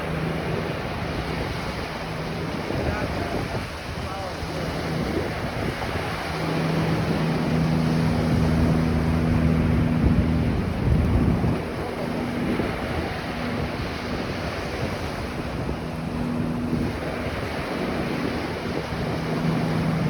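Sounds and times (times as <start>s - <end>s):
ocean surf washing onto beach: 0.0s - 20.0s
steady low hum: 0.0s - 20.0s
wind buffeting microphone: 0.0s - 20.0s.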